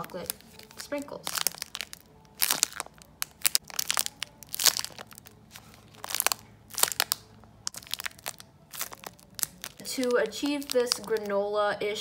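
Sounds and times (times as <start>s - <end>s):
plastic wrapper crinkling: 0.0s - 11.4s.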